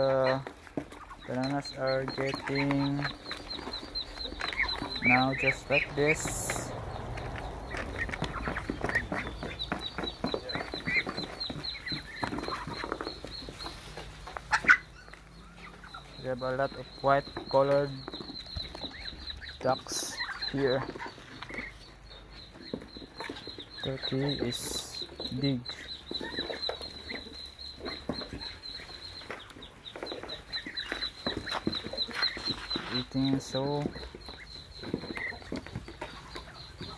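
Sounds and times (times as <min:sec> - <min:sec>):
ducks pecking with bill clicks: 0:00.0 - 0:36.9
poultry clucking: 0:00.0 - 0:36.9.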